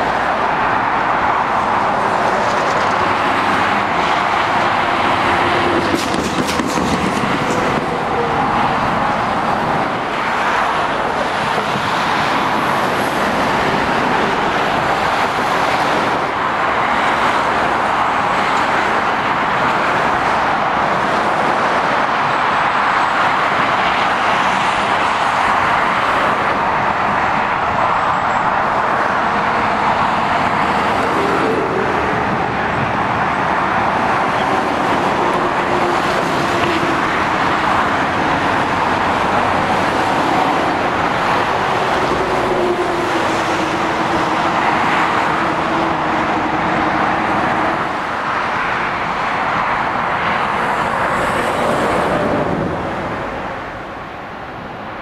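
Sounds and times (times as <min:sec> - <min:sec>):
vehicle engines: 0:00.0 - 0:55.0.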